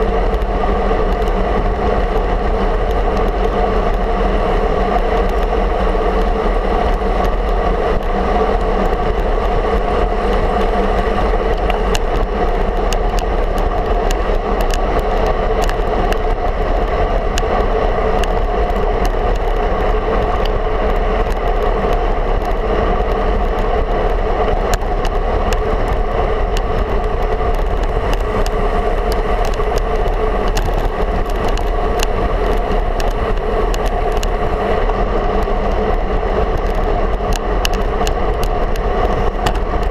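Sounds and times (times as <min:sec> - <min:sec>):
road vibration rumble: 0:00.0 - 0:39.9
small rattling ticks: 0:00.0 - 0:39.9.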